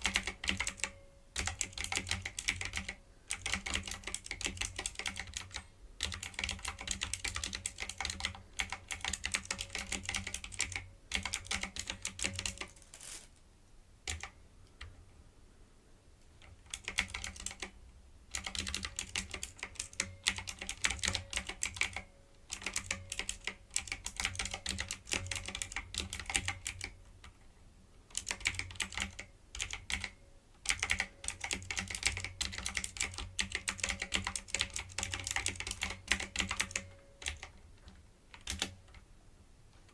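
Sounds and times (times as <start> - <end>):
fast keyboard typing: 0.0 - 12.8, 14.0 - 14.9, 16.4 - 27.4, 28.1 - 39.0.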